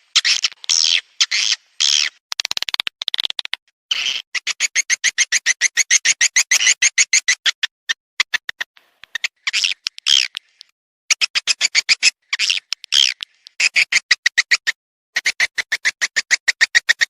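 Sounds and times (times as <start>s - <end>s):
buzzy twittering calls: 0.0s - 7.6s, 9.0s - 15.4s
sharp chirping clicks: 0.1s - 17.0s.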